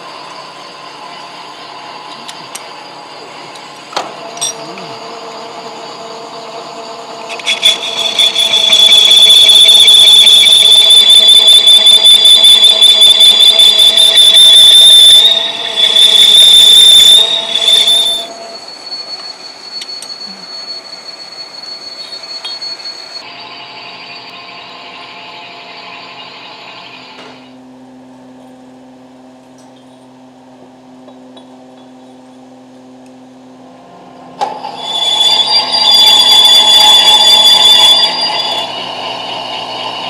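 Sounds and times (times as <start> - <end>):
lathe cutting tool screeching: 0.2 - 27.1, 34.4 - 40.0.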